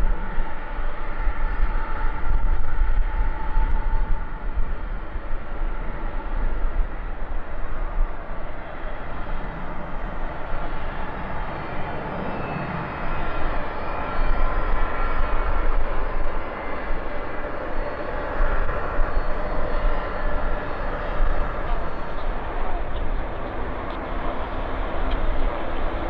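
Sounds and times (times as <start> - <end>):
faint engine whine: 0.0 - 26.0
jet engines rumbling: 0.0 - 26.0.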